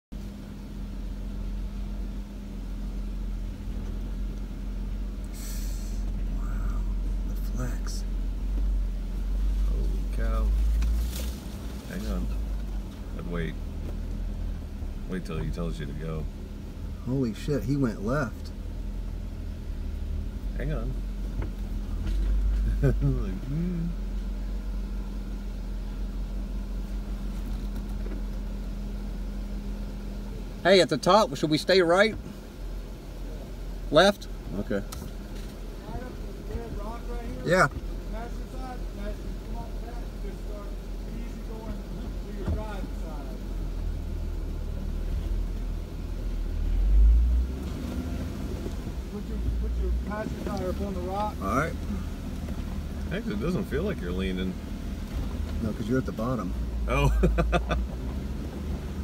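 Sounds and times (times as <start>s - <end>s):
car engine idling: 0.1s - 59.0s.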